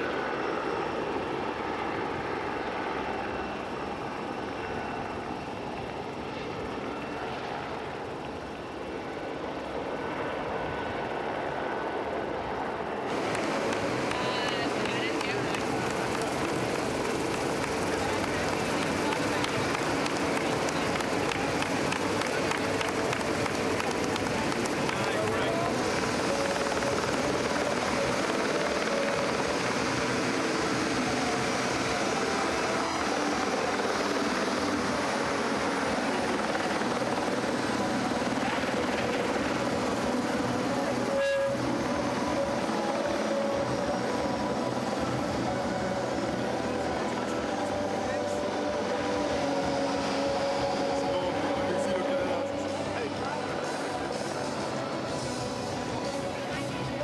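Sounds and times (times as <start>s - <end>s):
faint high whine: 0.0s - 57.0s
jet engines running: 0.0s - 57.0s.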